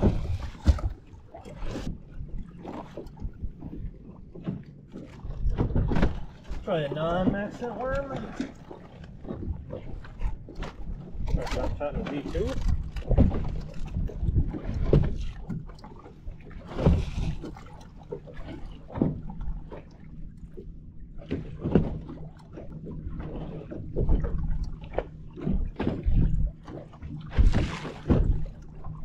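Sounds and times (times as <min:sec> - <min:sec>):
steady low hum: 0:00.0 - 0:29.0
water slapping against hull: 0:00.0 - 0:29.0.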